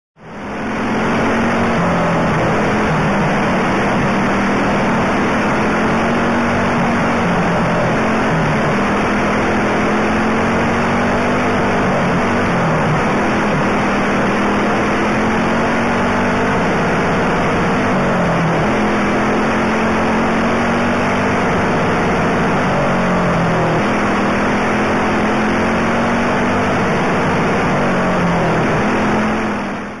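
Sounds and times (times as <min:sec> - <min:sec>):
go-kart engine running hard: 0:00.2 - 0:30.0
other kart engines: 0:00.2 - 0:30.0.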